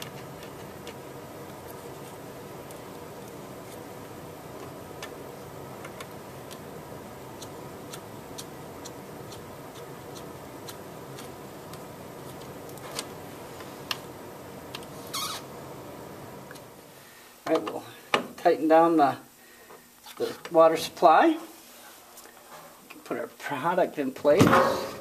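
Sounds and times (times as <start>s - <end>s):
room hum: 0.0s - 25.0s.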